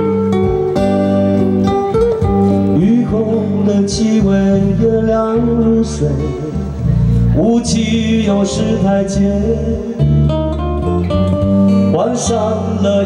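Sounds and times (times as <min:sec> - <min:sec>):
acoustic guitars strumming chords: 0:00.0 - 0:13.0
electric guitar picked melody: 0:00.0 - 0:13.0.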